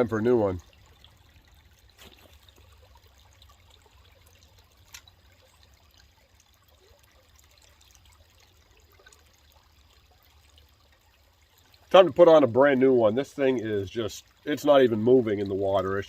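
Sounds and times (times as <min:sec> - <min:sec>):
trickle of running water: 0:00.0 - 0:16.0.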